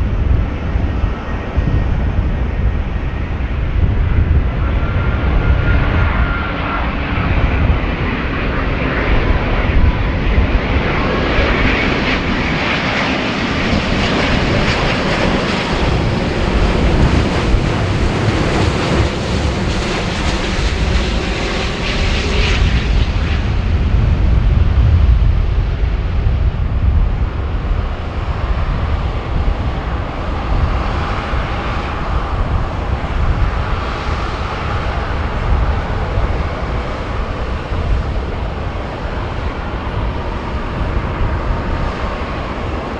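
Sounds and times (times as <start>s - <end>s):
jet airliner engines roaring: 0.0s - 42.9s.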